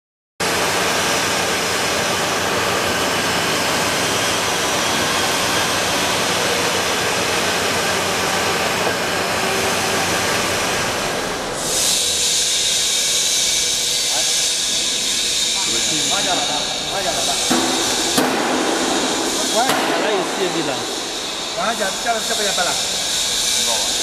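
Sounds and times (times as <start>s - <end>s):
machine running: 0.4s - 24.0s
blower airy hiss: 0.8s - 24.0s.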